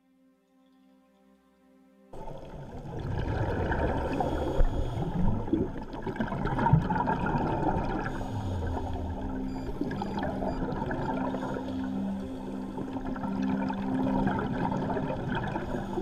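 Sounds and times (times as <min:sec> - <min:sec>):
low steady hum: 0:02.2 - 0:16.0
underwater regulator bubbles: 0:02.2 - 0:16.0.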